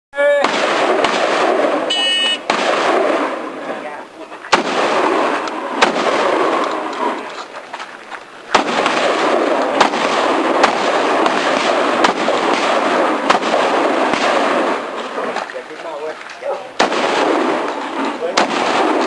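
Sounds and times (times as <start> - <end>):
shotgun shots: 0.4 - 7.5, 8.5 - 19.0.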